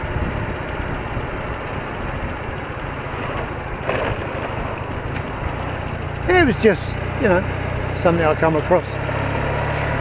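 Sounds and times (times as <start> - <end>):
motorcycle engine running: 0.0 - 10.0
wind and road rush: 0.0 - 10.0.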